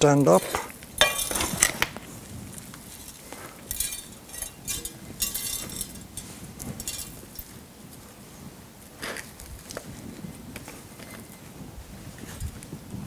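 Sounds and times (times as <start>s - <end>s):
gritty soil crunching: 0.0s - 13.0s.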